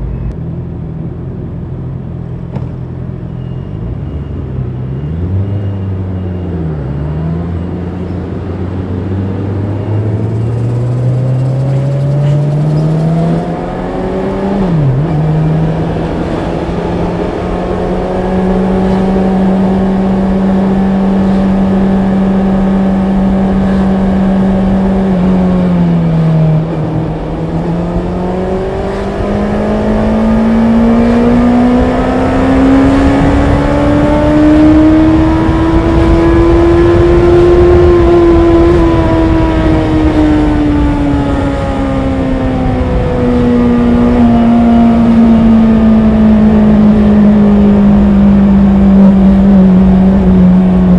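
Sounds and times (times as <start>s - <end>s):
motorcycle engine revving: 4.2s - 50.9s.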